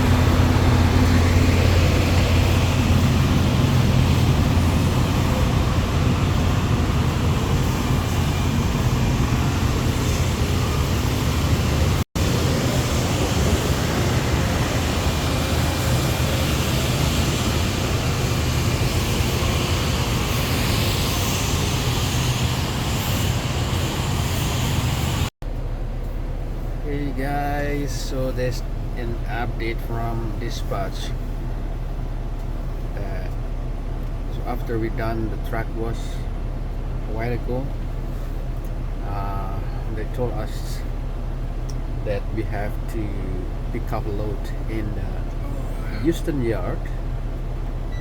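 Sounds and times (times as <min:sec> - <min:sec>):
diesel truck engine droning: 0:00.0 - 0:48.0
road and air noise: 0:00.0 - 0:48.0.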